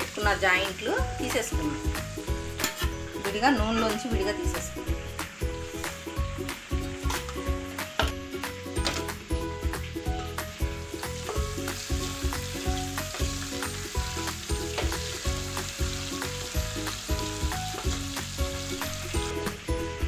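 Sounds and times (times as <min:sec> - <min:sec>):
oil sizzling in a pan: 0:00.0 - 0:20.0
background music with steady beat: 0:00.1 - 0:20.0.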